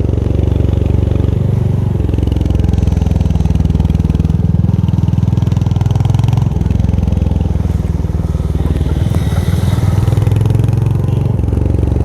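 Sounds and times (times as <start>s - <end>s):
motorcycle engine and exhaust: 0.0s - 12.0s.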